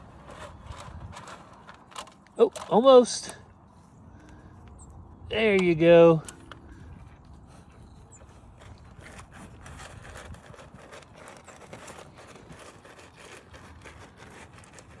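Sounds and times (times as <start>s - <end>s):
calves crunching feed: 0.0s - 15.0s.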